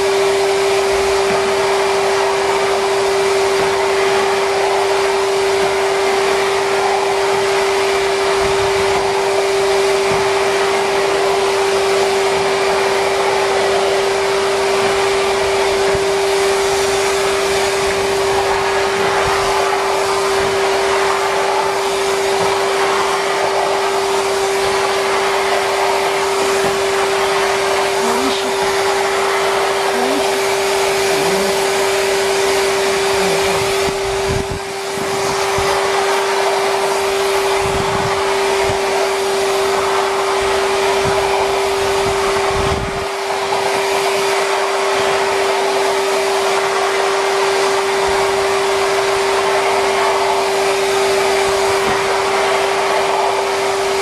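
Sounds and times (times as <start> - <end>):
rushing air: 0.0 - 54.0
vacuum motor whine: 0.0 - 54.0.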